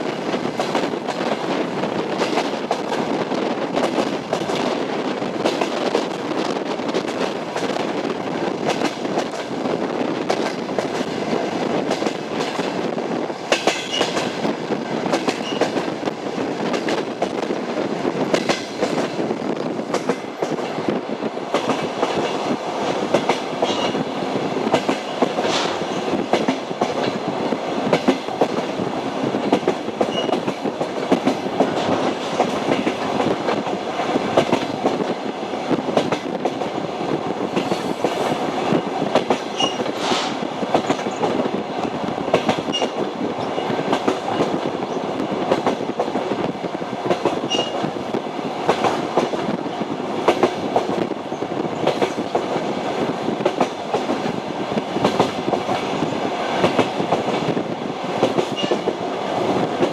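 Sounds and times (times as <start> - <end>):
train rumble: 0.0 - 59.9
train wheels clacking on rails: 0.0 - 59.9.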